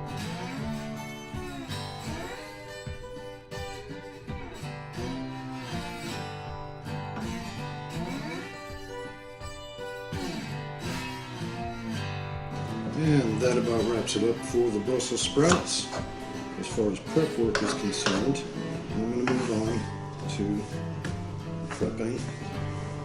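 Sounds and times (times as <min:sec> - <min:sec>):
country acoustic guitar melody: 0:00.0 - 0:23.0.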